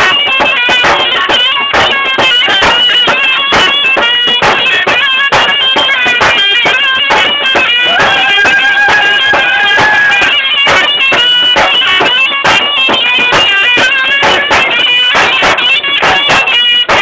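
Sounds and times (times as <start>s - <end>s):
drum strokes: 0.0s - 17.0s
reedy wind instrument melody: 0.0s - 17.0s.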